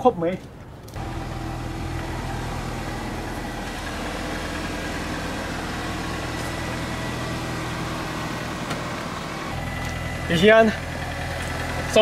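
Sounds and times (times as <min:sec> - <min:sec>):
engine idling: 0:01.0 - 0:12.0.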